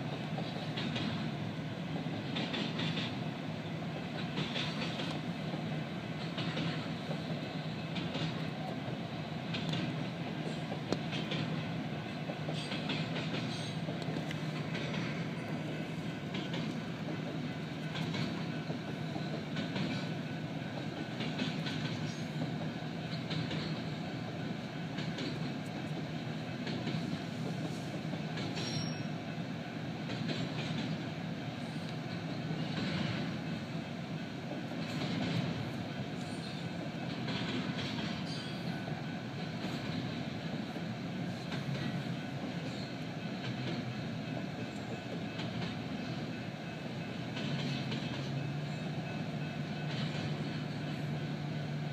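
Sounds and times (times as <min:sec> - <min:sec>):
train cars rumbling and rattling: 0:00.0 - 0:51.9
wheels clacking over rail joints: 0:00.1 - 0:03.3, 0:04.0 - 0:29.1, 0:30.0 - 0:51.9.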